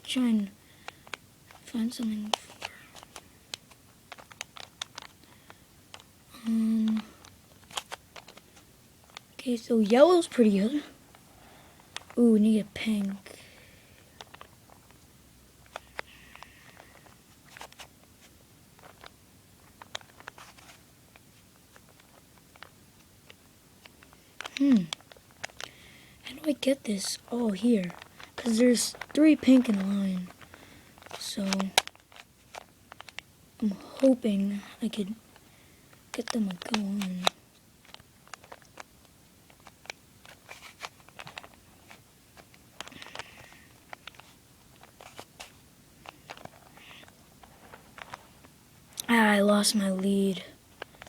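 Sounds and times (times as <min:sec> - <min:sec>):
puzzle cube clicking and twisting: 0:00.8 - 0:10.9, 0:11.8 - 0:12.3, 0:14.0 - 0:15.0, 0:15.6 - 0:33.3, 0:34.0 - 0:49.0.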